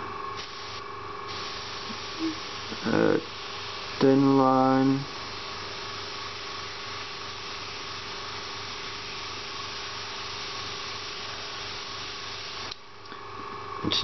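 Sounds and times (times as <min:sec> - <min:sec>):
airbrush hissing: 0:00.0 - 0:12.8
steady low hum: 0:00.0 - 0:14.0.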